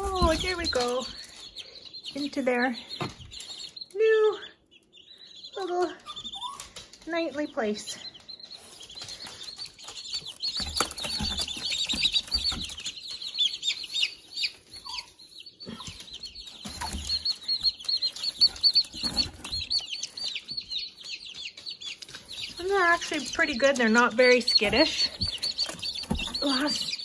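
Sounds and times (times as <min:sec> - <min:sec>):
baby chicks peeping: 0:00.0 - 0:27.0.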